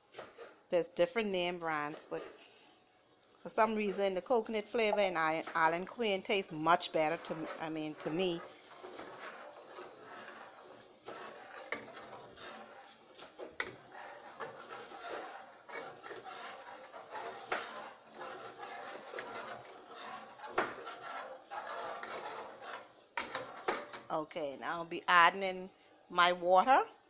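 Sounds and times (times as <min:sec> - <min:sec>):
metal spoon stirring in pot: 0:00.0 - 0:00.6, 0:01.3 - 0:02.5, 0:03.5 - 0:24.1.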